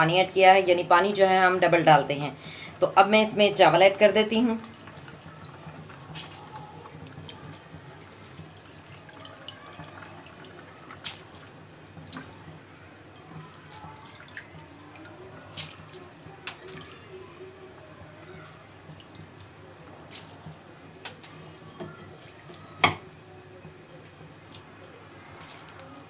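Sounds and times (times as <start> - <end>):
stock bubbling in a pan: 0.4 - 26.0.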